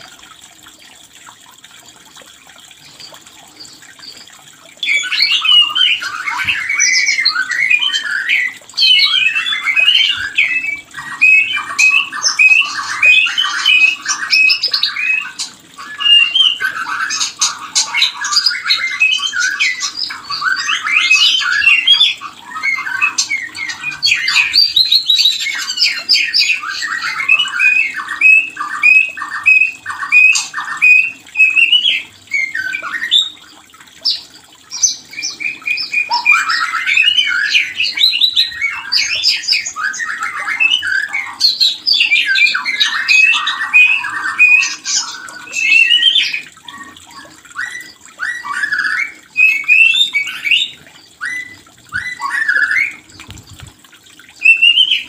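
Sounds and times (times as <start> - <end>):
bird song with trills and whistles: 2.8 - 53.6, 54.3 - 55.0.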